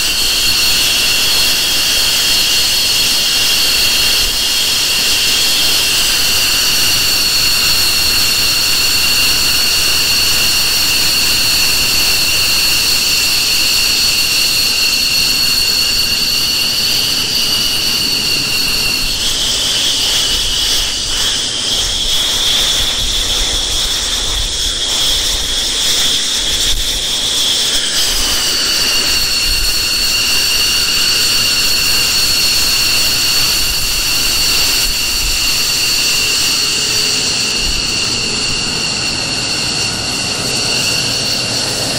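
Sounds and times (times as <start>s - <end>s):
jet engines whining: 0.0s - 41.9s.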